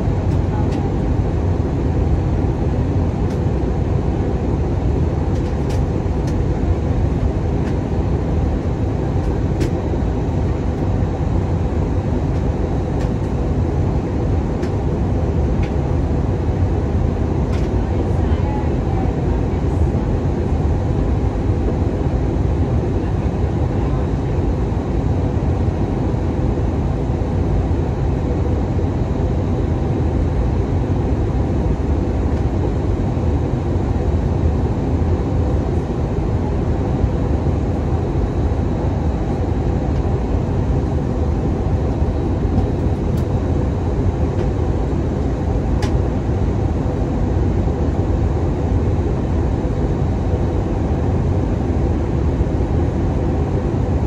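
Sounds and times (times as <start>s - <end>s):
low rumble of jet engines: 0.0s - 54.0s.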